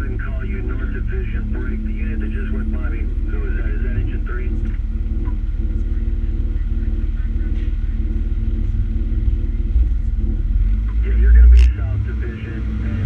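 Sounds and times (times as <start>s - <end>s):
deep rumble: 0.0s - 13.0s
diesel engine droning: 0.0s - 13.0s.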